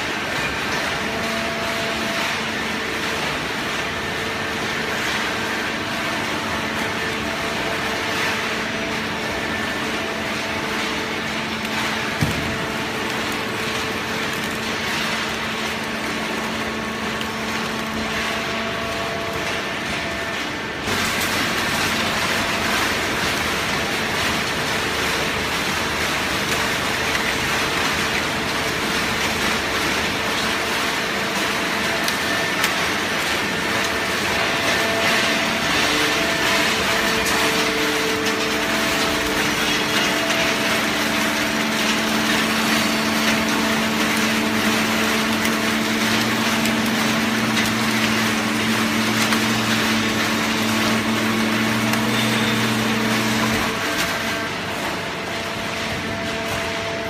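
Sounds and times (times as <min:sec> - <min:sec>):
baling machine and conveyor running: 0:00.0 - 0:57.0.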